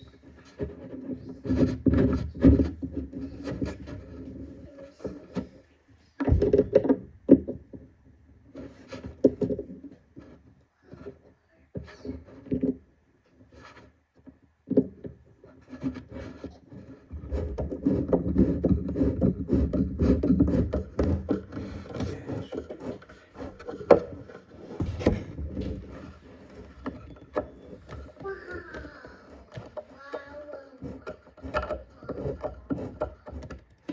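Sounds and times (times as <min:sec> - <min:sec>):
knocks and clicks of furniture parts: 0:00.0 - 0:33.9
wood scraping and rubbing: 0:00.0 - 0:33.9.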